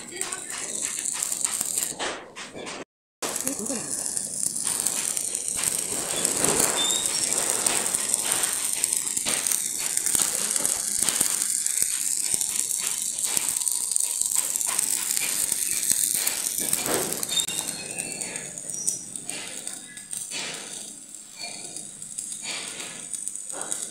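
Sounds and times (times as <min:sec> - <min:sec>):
arc welding crackle and sizzle: 0:00.0 - 0:23.9.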